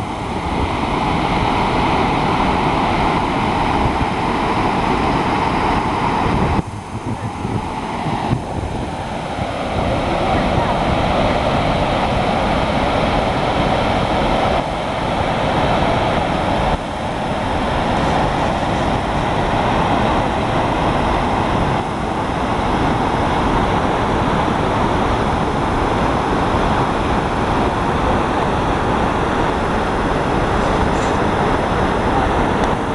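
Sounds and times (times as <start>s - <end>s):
waterfall roaring: 0.0s - 32.9s.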